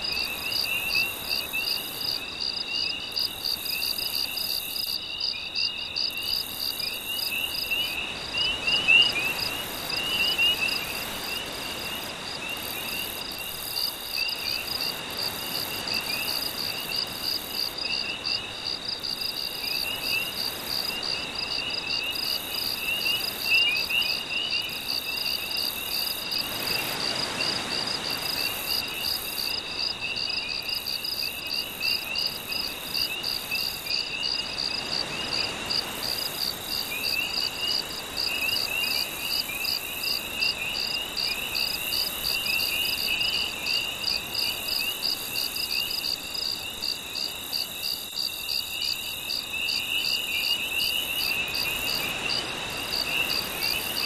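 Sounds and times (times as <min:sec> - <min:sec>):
crickets trilling: 0:00.0 - 0:54.0
insects chirping: 0:00.0 - 0:54.0.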